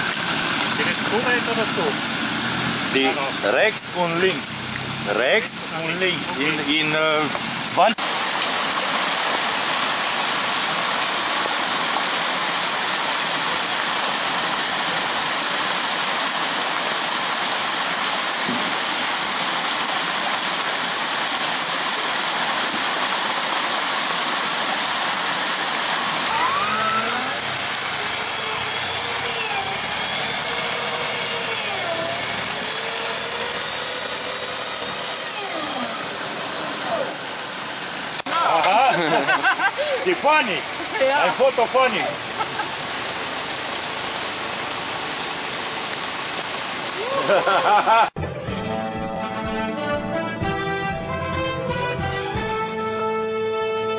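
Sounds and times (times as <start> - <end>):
water rushing: 0.0 - 48.2.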